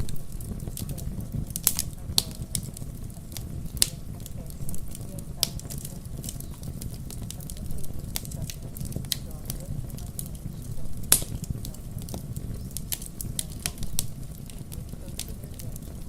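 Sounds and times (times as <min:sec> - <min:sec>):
low rumble: 0:00.0 - 0:16.0
sharp pops: 0:00.0 - 0:16.0
wood fire crackling: 0:00.0 - 0:16.0.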